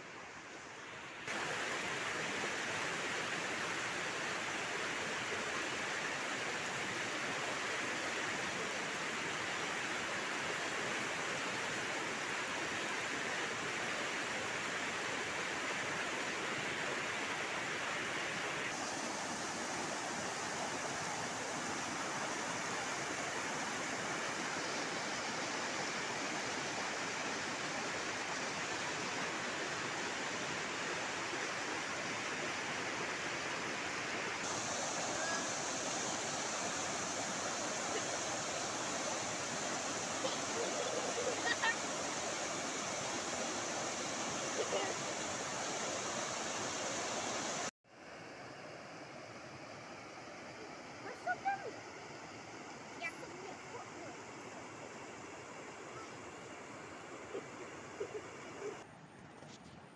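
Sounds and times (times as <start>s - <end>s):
stream water flowing over rocks: 0.0s - 58.9s.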